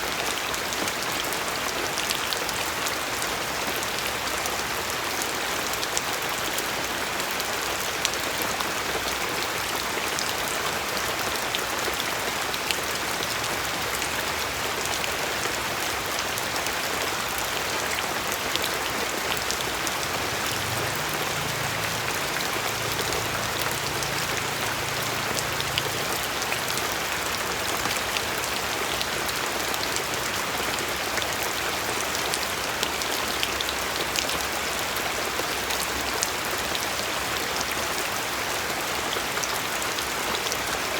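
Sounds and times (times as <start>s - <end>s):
steady rain: 0.0s - 40.9s
raindrops ticking on a surface: 0.1s - 40.9s.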